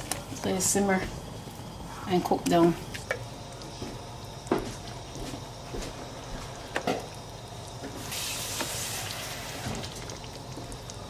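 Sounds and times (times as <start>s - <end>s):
pot simmering with low sizzle: 0.0s - 11.0s.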